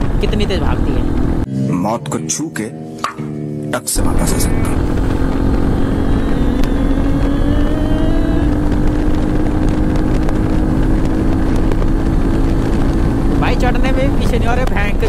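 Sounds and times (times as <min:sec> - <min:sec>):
wind and road noise: 0:00.0 - 0:01.5, 0:04.0 - 0:15.0
motorcycle engine accelerating: 0:00.0 - 0:01.8, 0:03.8 - 0:15.0.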